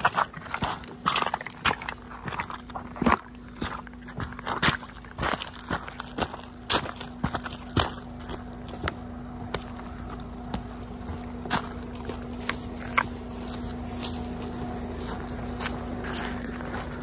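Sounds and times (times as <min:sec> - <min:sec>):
low diesel engine hum: 0:00.0 - 0:17.0
tyres crunching over stones and twigs: 0:00.0 - 0:17.0.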